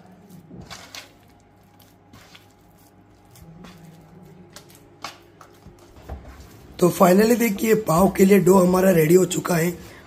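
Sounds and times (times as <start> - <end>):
dough squishing: 0.0 - 10.0.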